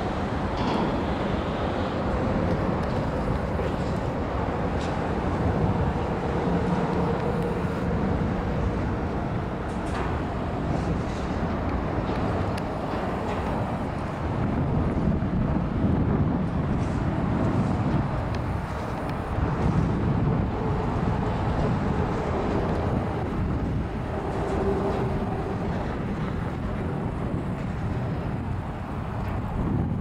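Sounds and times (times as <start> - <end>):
distant city traffic: 0.0 - 30.0
wind on microphone: 0.0 - 30.0.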